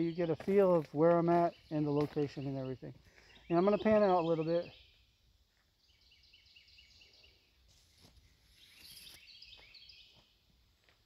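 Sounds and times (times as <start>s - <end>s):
woodland background: 0.0s - 11.0s.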